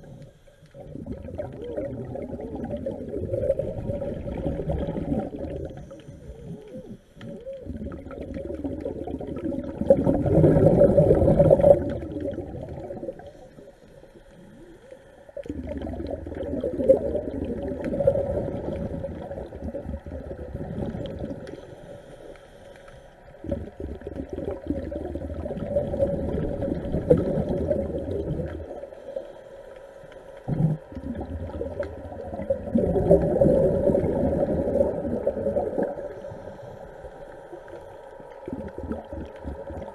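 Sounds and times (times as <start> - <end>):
exhaled bubbles: 0.0 - 22.0, 23.2 - 29.3, 30.4 - 39.9.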